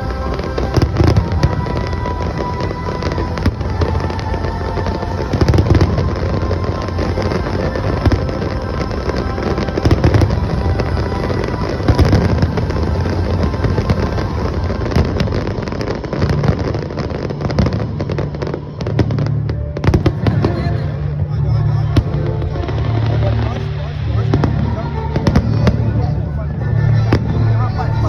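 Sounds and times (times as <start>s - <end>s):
background music: 0.0s - 28.0s
fireworks bangs and crackles: 0.0s - 28.0s.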